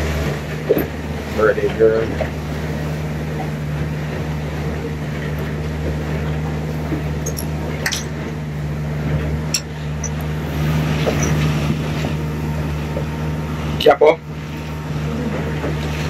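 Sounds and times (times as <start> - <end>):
outboard motor humming: 0.0 - 16.0
water and hull noise: 0.0 - 16.0.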